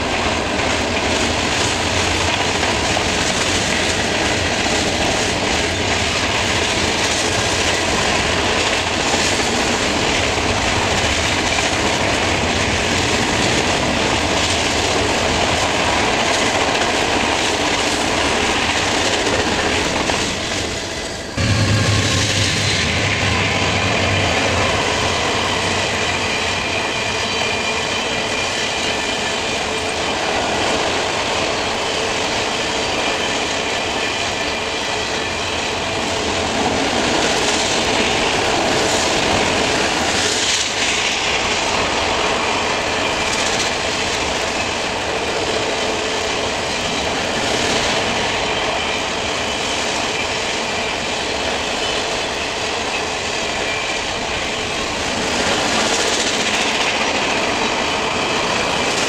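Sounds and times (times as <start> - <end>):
steel wheels rumbling on rails: 0.0 - 59.0.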